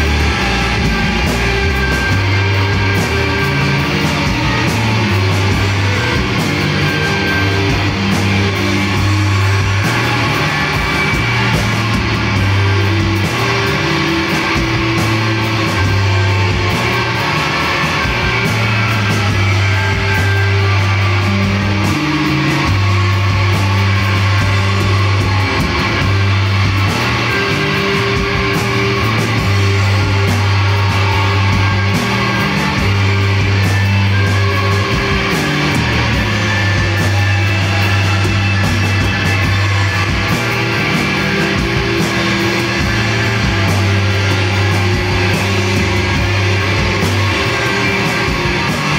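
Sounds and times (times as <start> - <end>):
bass notes: 0.0 - 48.9
drums and cymbals: 0.0 - 48.9
electric guitars: 0.0 - 48.9.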